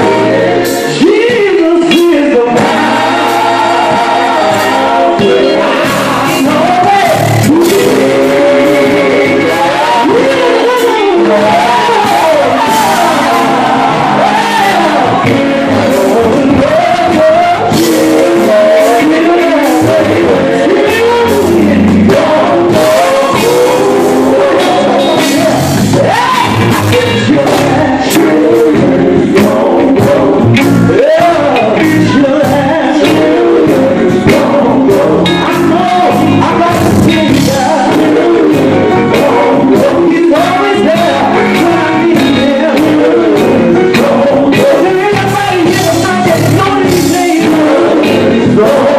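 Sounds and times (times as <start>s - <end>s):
backing vocals: 0.0s - 48.9s
electric guitar: 0.0s - 48.9s
male lead singer: 0.0s - 48.9s.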